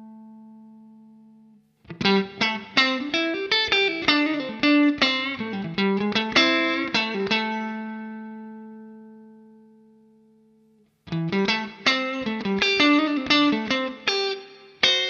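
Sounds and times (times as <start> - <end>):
electric guitar: 0.0 - 15.0.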